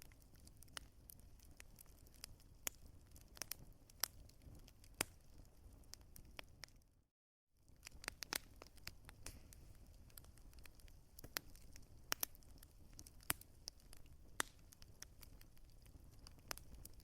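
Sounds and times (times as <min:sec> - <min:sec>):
wood fire crackling and popping: 0:00.0 - 0:06.9, 0:07.6 - 0:17.0.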